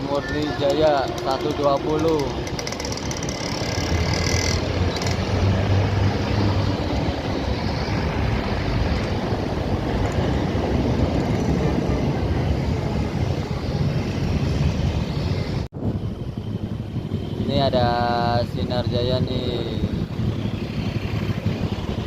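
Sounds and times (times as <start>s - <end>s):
bus engine passing: 0.0s - 19.0s
road traffic noise: 0.0s - 22.0s.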